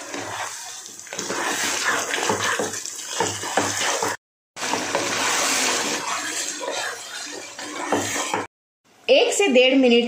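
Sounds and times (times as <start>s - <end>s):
meat sizzling in a pan: 0.0s - 8.4s
spatula scraping a pan: 0.0s - 8.5s.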